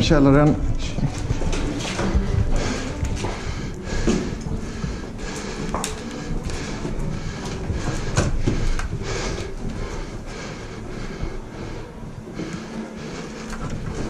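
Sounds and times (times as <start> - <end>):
footsteps jogging: 0.0 - 14.0.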